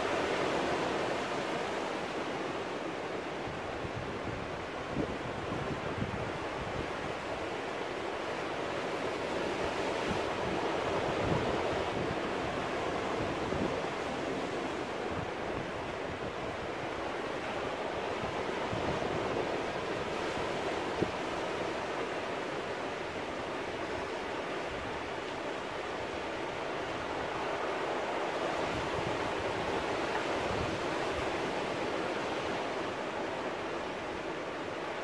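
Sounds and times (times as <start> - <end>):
surf washing over rocks: 0.0 - 35.0.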